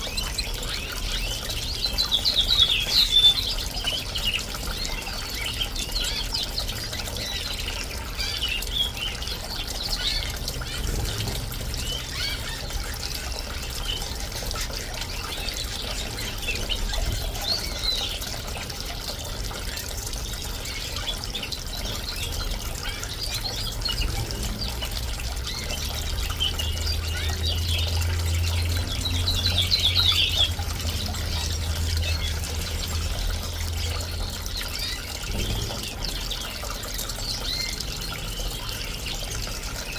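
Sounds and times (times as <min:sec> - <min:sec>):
fountain trickling: 0:00.0 - 0:39.9
small birds chirping and twittering: 0:00.0 - 0:39.9.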